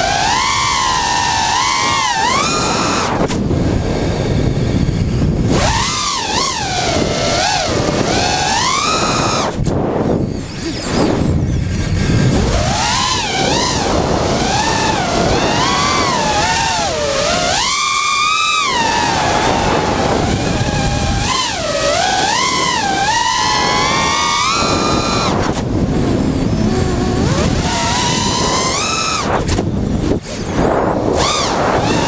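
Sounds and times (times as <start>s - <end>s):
drone motors whining: 0.0s - 32.0s
wind rushing over microphone: 0.0s - 32.0s.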